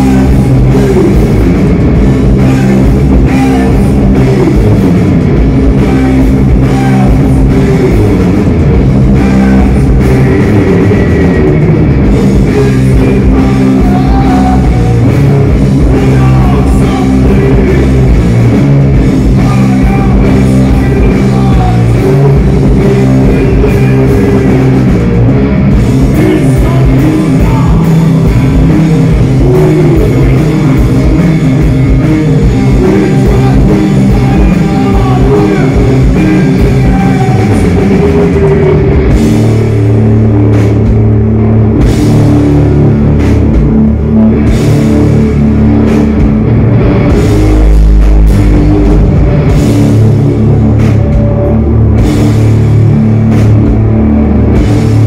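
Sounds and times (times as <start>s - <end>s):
heavy rock band playing live: 0.0s - 55.0s.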